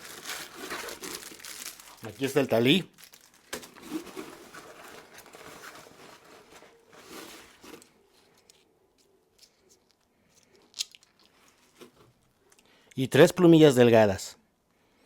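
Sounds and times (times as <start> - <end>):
packaging rustling and crinkling: 0.0 - 12.3.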